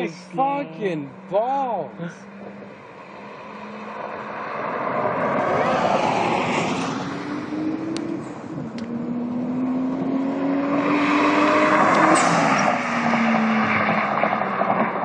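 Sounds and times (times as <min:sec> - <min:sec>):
car accelerating past: 0:02.1 - 0:15.0.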